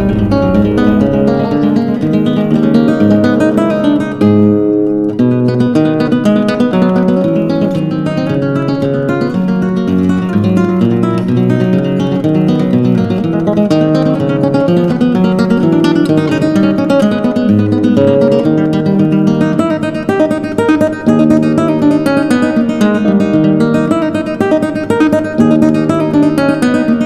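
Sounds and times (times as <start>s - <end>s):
acoustic guitar strummed and plucked: 0.0s - 27.0s.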